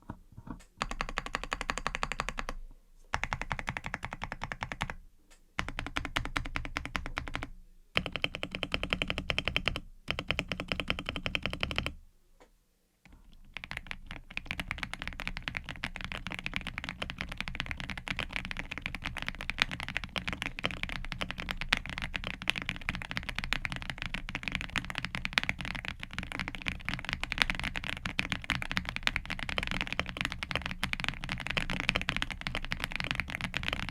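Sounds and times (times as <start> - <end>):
mechanical keyboard typing: 0.8 - 5.0, 5.6 - 12.0, 13.4 - 33.9.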